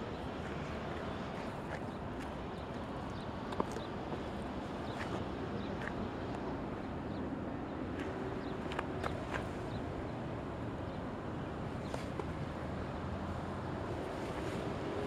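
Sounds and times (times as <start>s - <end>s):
distant road traffic: 0.0s - 15.0s
wind: 0.0s - 15.0s.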